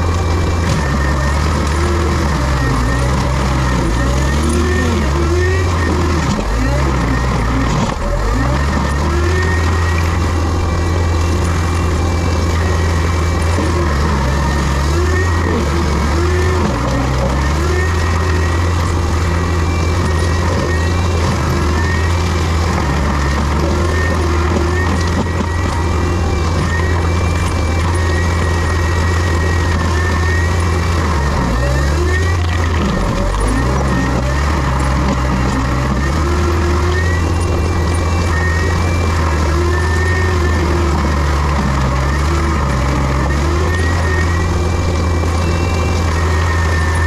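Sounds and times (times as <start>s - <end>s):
heavy diesel machinery droning: 0.0s - 47.0s.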